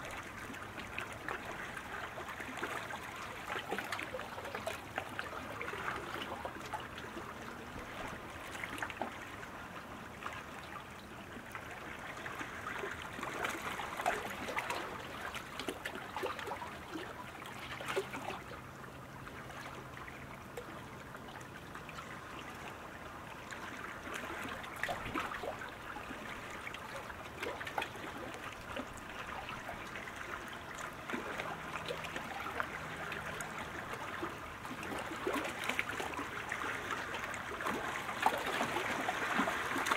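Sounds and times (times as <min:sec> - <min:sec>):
paddles splashing water: 0:00.0 - 0:39.9
water rushing: 0:00.0 - 0:39.9.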